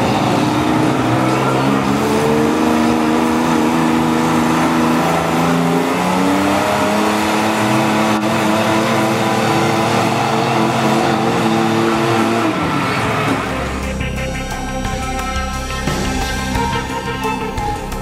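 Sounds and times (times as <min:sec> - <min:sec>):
truck engine revving hard: 0:00.0 - 0:18.0.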